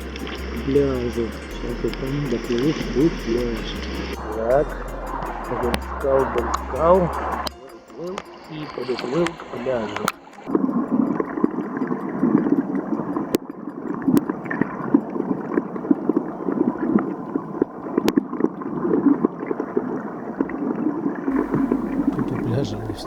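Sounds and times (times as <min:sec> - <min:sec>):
water sloshing and gurgling: 0:00.0 - 0:23.0.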